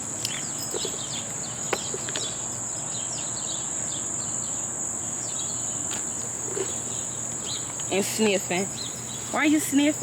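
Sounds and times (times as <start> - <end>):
birds chirping: 0.0 - 10.0
insects trilling: 0.0 - 10.0.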